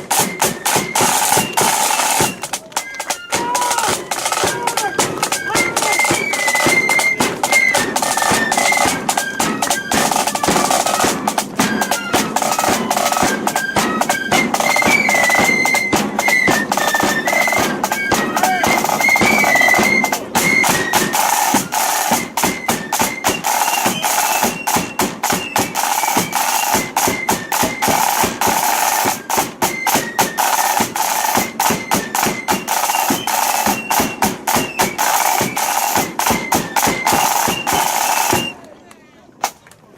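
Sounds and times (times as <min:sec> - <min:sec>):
snare drum rolls: 0:00.0 - 0:38.6
flutes playing melody: 0:00.0 - 0:38.7.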